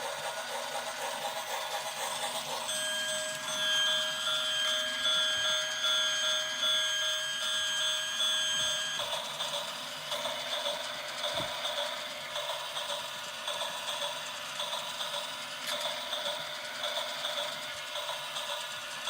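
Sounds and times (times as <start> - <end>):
toy train motor whirring: 0.0 - 8.0, 8.7 - 19.0.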